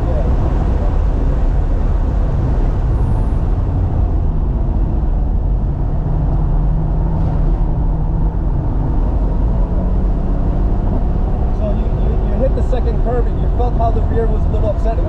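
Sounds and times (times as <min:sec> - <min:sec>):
road noise: 0:00.0 - 0:15.0
wind noise: 0:00.0 - 0:15.0.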